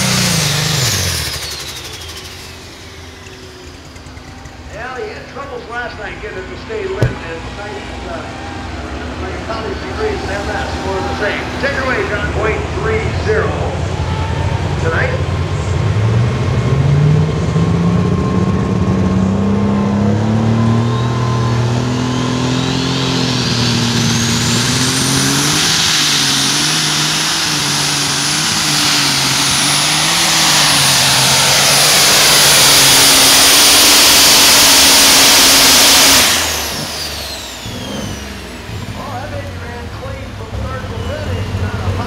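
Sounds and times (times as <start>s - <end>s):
diesel tractor engine under load: 0.0s - 42.0s
high turbo whine: 0.0s - 42.0s.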